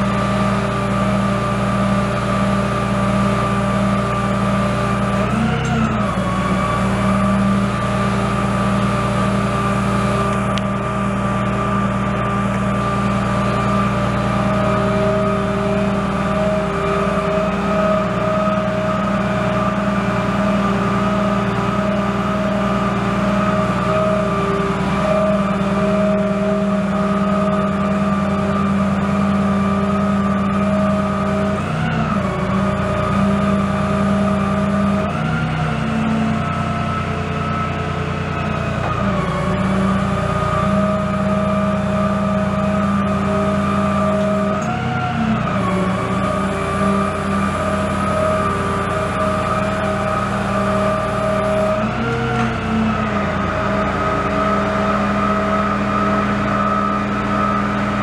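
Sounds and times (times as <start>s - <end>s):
diesel engine running: 0.0s - 58.0s
hydraulic pump whine: 0.0s - 58.0s.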